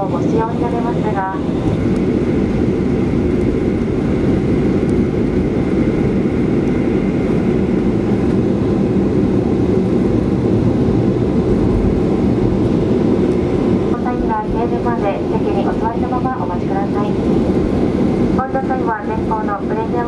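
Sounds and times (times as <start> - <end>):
airliner cabin low rumble: 0.0 - 20.0.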